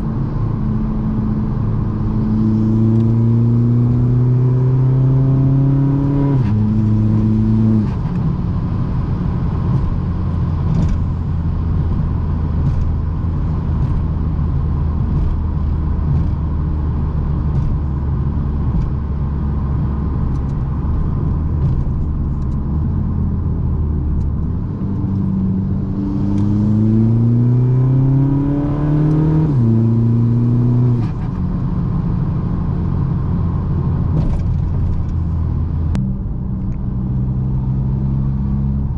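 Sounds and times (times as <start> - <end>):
diesel car engine accelerating: 0.0 - 38.9.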